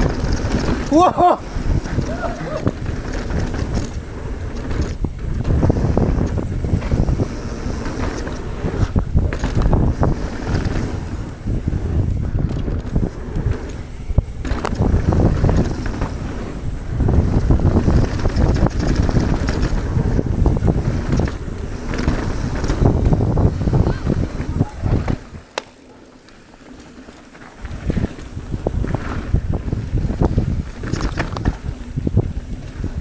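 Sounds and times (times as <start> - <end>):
wind buffeting microphone: 0.0 - 25.6, 27.5 - 33.0
bike clattering over bumps: 0.0 - 33.0.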